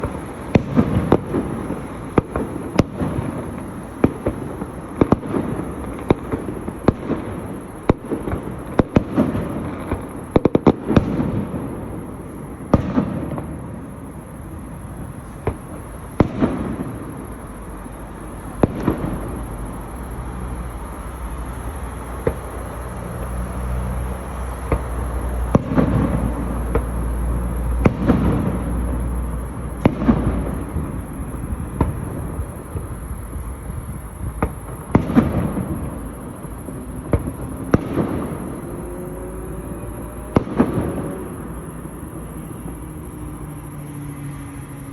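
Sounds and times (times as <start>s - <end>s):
rumbling firework booms: 0.0s - 43.4s
fireworks bangs and cracks: 0.0s - 44.9s.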